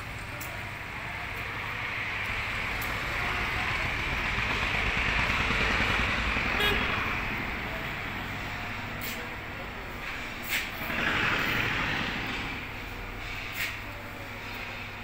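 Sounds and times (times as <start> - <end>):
vehicle rushing with low rumble: 0.0 - 13.2.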